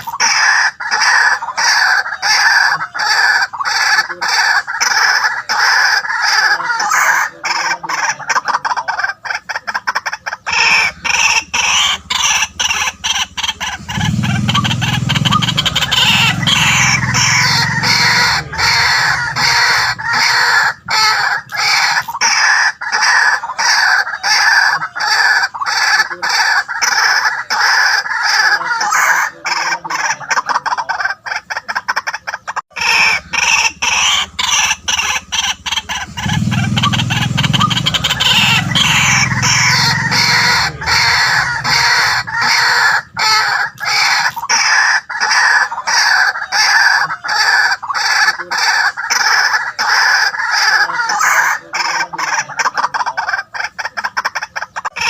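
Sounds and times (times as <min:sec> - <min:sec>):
waterhens calling harshly: 0:00.0 - 0:55.0.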